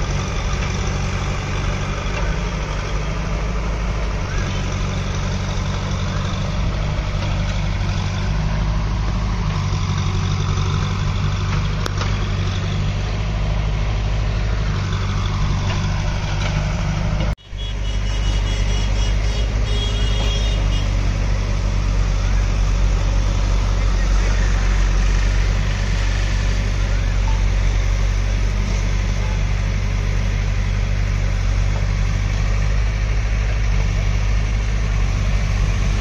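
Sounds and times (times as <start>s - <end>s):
diesel engines droning: 0.0s - 36.0s.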